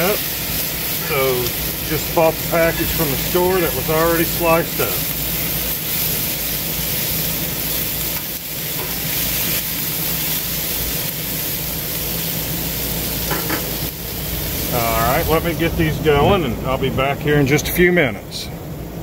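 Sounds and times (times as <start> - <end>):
peppers sizzling on a griddle: 0.0 - 16.1
air conditioner hum: 0.0 - 19.0.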